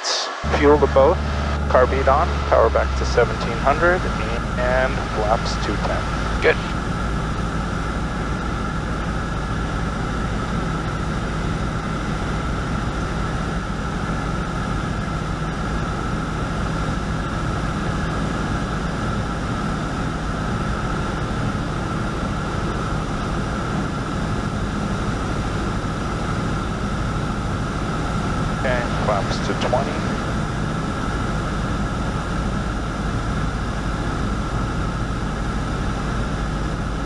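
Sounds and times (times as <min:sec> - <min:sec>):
airplane engine and propeller drone: 0:00.0 - 0:37.0
wind noise over airframe: 0:00.6 - 0:37.0.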